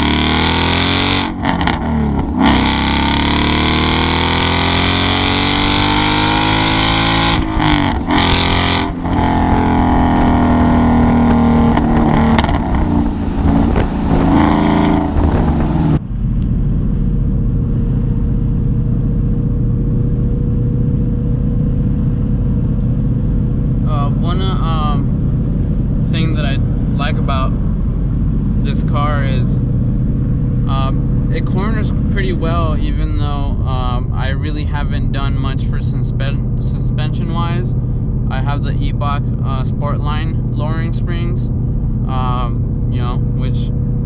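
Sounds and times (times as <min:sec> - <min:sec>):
car engine accelerating: 0:00.0 - 0:44.0.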